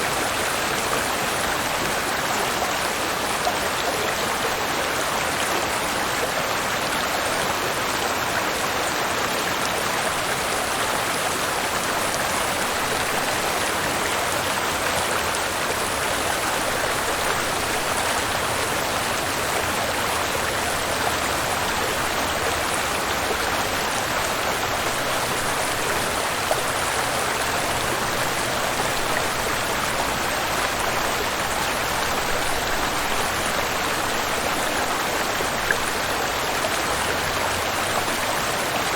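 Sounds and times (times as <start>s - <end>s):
waterfall and river rushing: 0.0s - 38.9s.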